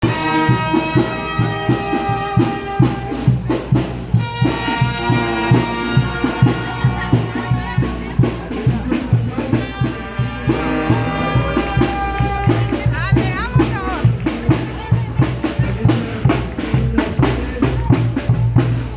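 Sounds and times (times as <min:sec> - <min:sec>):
brass horns playing: 0:00.0 - 0:18.0
drum beat: 0:00.0 - 0:18.9.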